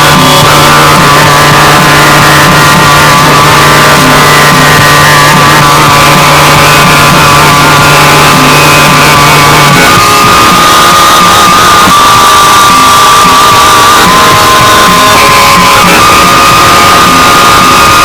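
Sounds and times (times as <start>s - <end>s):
harsh distorted noise music: 0.0s - 18.0s
wavering high tone: 0.0s - 18.0s.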